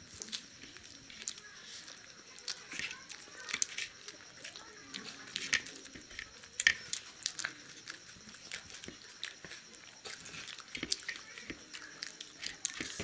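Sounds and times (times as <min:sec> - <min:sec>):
people biting and chewing: 0:00.0 - 0:13.0.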